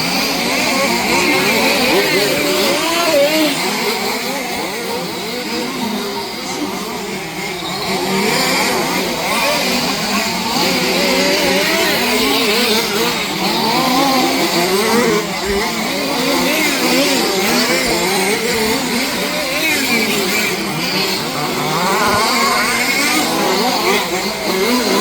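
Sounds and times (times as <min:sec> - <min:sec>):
rc car engines revving: 0:00.0 - 0:25.0.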